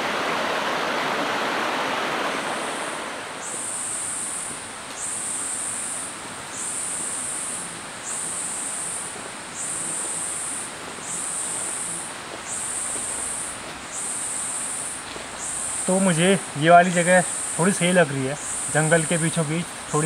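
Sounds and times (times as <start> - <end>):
stream water flowing: 0.0 - 20.0
insect shrill buzzing call: 2.5 - 20.0.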